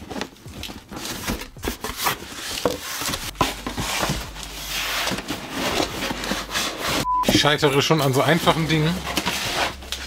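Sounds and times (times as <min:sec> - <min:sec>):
cardboard rubbing and scraping: 0:00.0 - 0:07.1, 0:08.5 - 0:10.0.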